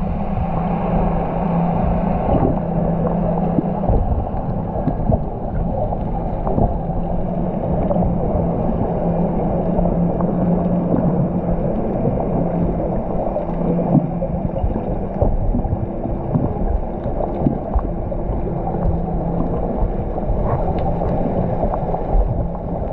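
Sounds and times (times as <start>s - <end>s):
boat engine hum: 0.0s - 22.9s
low underwater rumble: 0.0s - 22.9s.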